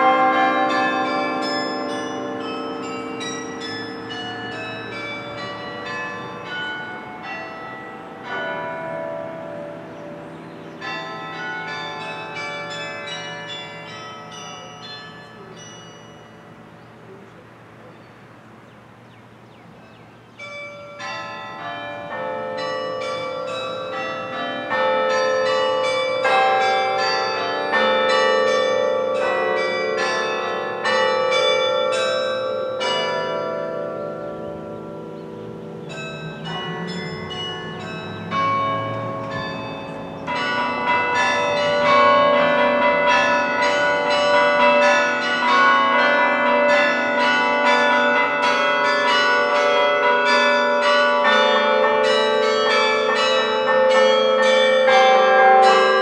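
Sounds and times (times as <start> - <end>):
carillon bells playing a lively tune: 0.0 - 16.7, 20.4 - 56.0.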